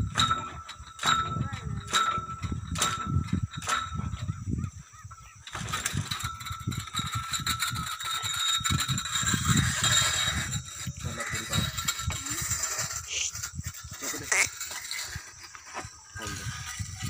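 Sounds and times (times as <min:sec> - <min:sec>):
iron pipe knocking and rattling: 0:00.0 - 0:17.0.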